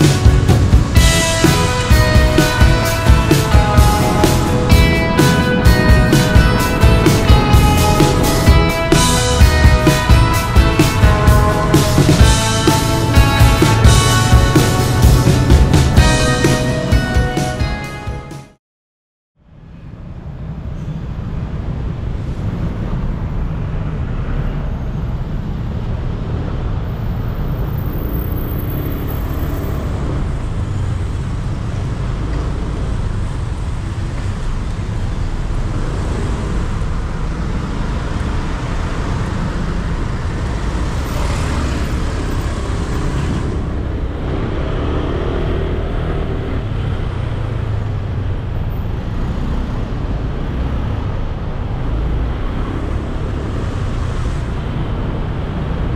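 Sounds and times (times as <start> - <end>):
vehicle rushing past: 0.0 - 17.1, 22.0 - 33.9, 35.4 - 55.9
traffic rumble and road noise: 0.0 - 18.5, 19.4 - 55.9.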